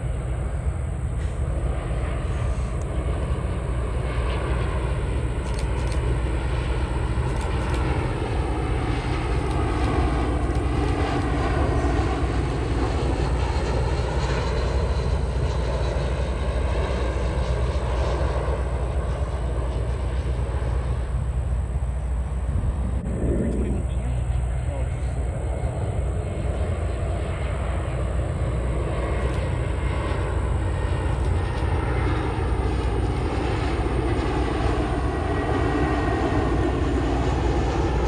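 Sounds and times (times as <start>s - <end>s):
jet airliner passing by: 0.0s - 38.0s.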